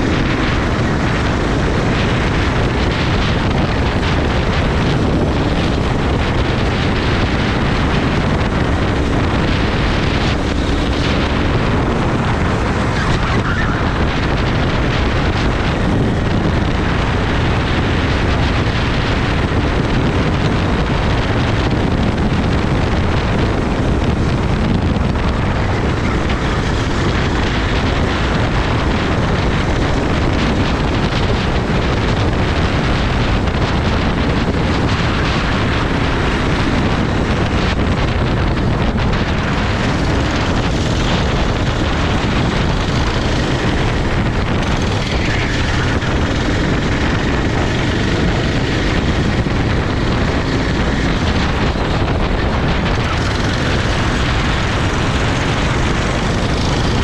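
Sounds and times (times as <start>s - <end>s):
kart engine at speed: 0.0s - 57.0s
wind buffeting microphone: 0.0s - 57.0s.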